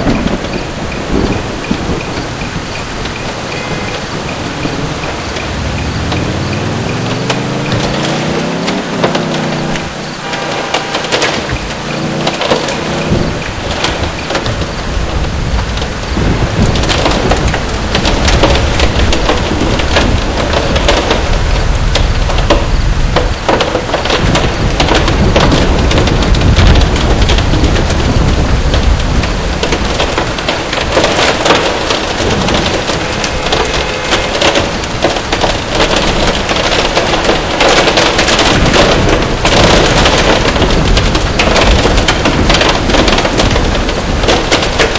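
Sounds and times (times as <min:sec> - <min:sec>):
rain and hail pelting a car: 0:00.0 - 0:44.9.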